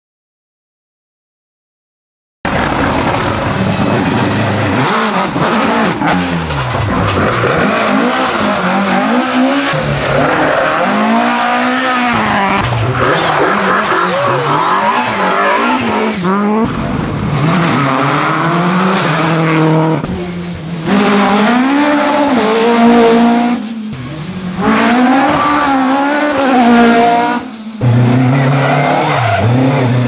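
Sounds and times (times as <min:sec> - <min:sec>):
rally car engines revving: 0:02.5 - 0:30.0.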